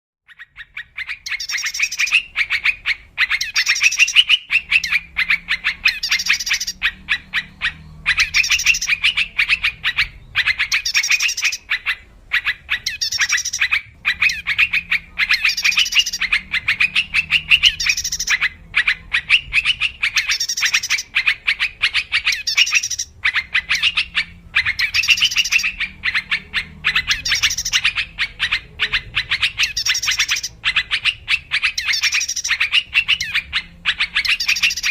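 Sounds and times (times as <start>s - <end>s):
bulbul chattering calls: 0.3s - 34.9s.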